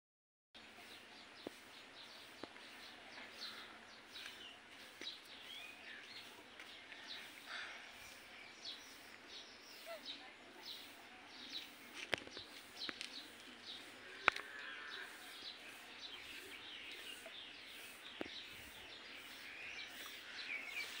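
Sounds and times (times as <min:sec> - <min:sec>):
birds chirping: 0:00.6 - 0:21.0.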